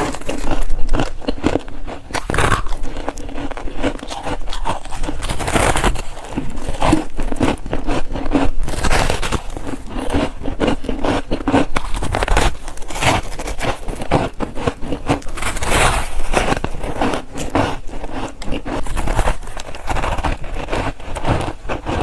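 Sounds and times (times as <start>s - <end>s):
chewing crunchy frost: 0.0s - 22.0s.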